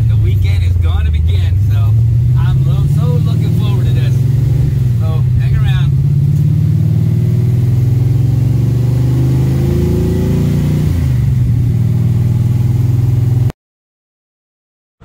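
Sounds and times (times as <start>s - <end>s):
car engine running: 0.0s - 13.5s.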